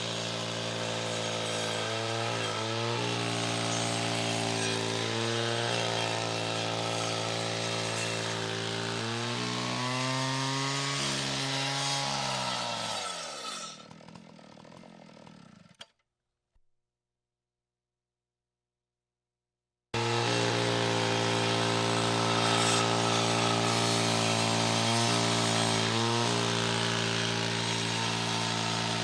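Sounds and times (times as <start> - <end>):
chainsaw engine running: 0.0 - 15.8, 20.0 - 29.0.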